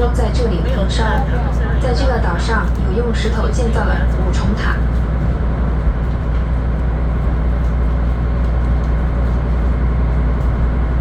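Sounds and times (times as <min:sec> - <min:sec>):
boat engine low drone: 0:00.0 - 0:11.0.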